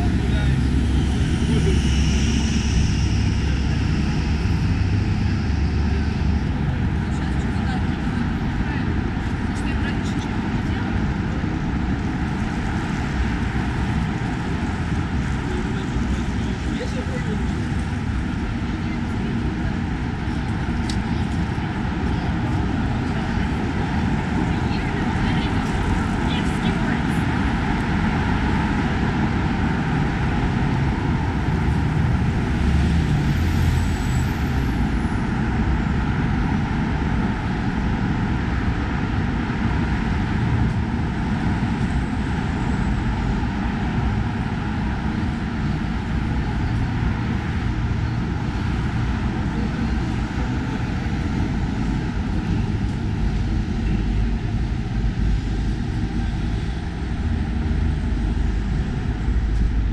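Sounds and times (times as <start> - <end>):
passing cars and buses: 0.0 - 59.9.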